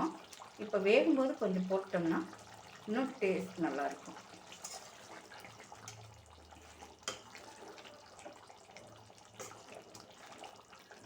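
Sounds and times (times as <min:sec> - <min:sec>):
gravy bubbling in a pot: 0:00.0 - 0:11.0.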